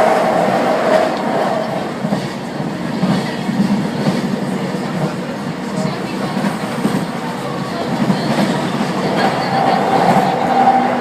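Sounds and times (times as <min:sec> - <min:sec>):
train wheels rumbling on rails: 0:00.0 - 0:11.0
train whine: 0:00.0 - 0:11.0.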